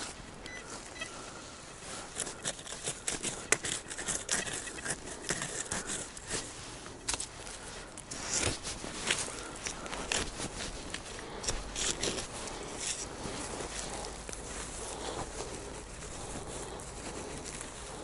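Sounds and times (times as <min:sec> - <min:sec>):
rustling and scraping: 0:00.0 - 0:18.0.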